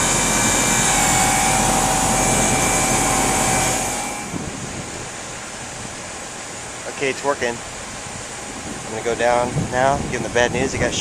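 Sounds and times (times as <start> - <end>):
rooftop air conditioner fans: 0.0 - 11.0.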